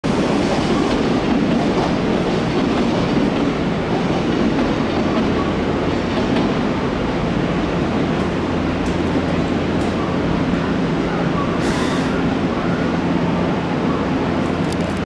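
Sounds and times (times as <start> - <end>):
electric train wheels rumbling on rail: 0.0 - 15.0.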